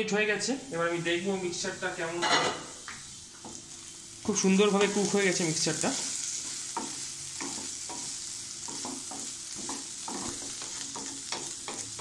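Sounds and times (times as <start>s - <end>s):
food sizzling: 0.0s - 12.0s.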